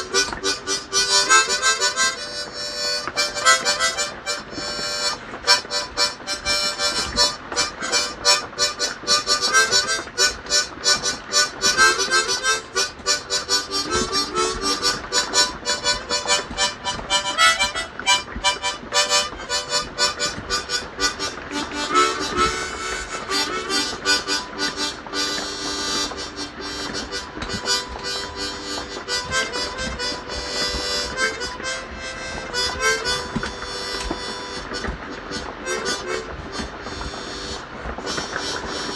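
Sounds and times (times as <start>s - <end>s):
harmonica chugging rhythm: 0.0s - 38.9s.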